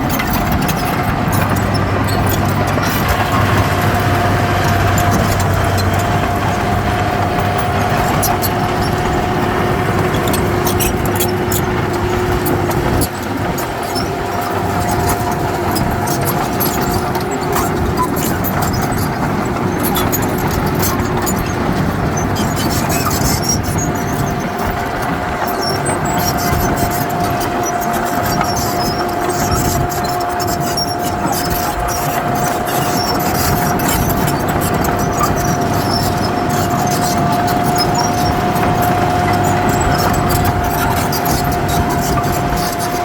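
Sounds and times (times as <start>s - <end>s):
diesel machinery running: 0.0s - 43.0s
sharp clicks and clanks: 0.0s - 43.0s.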